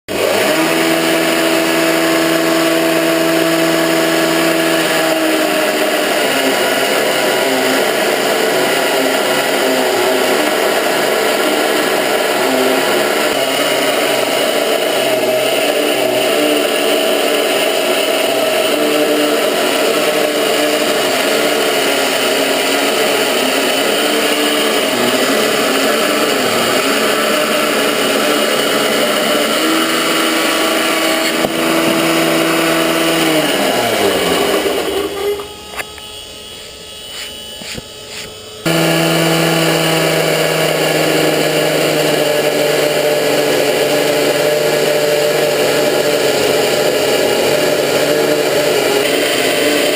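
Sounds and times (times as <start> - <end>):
chainsaw cutting wood: 0.1 - 36.1, 36.8 - 49.9.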